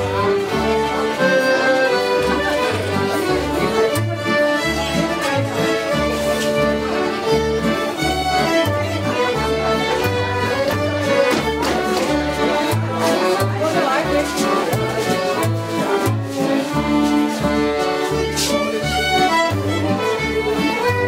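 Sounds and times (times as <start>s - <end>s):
double bass plucking: 0.0s - 21.0s
fiddle melody: 0.0s - 21.0s.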